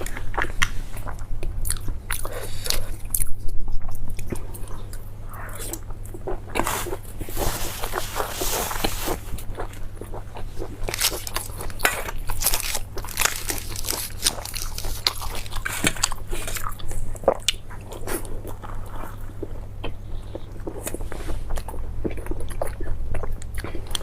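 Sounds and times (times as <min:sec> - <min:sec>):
crunchy chewing of food: 0:00.0 - 0:24.0.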